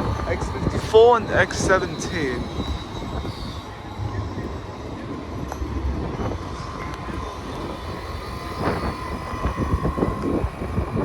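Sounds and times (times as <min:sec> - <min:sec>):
heavy vehicles rumbling: 0:00.0 - 0:11.0
high-pitched whine: 0:00.0 - 0:11.0.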